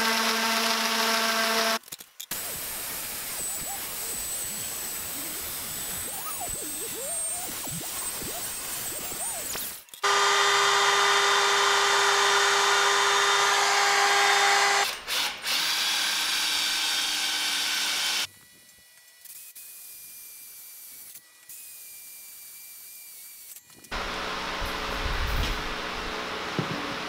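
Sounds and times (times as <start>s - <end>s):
cordless drill boring into steel: 0.0s - 25.0s.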